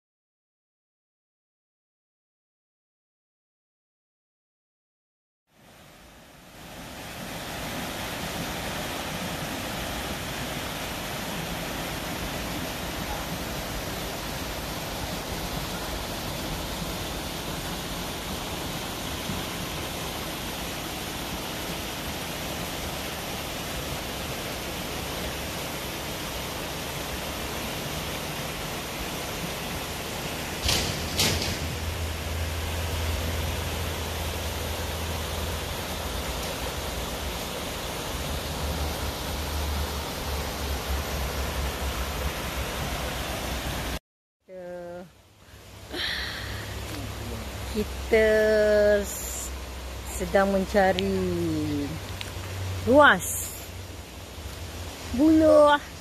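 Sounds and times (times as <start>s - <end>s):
river flowing over rocks: 5.7s - 44.0s, 45.2s - 48.2s, 48.9s - 56.0s.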